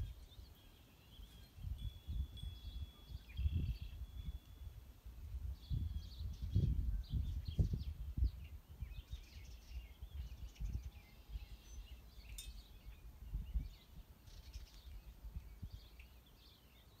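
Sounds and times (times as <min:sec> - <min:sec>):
birds chirping and singing: 0:00.0 - 0:04.6, 0:05.5 - 0:17.0
wind buffeting microphone: 0:01.5 - 0:16.0.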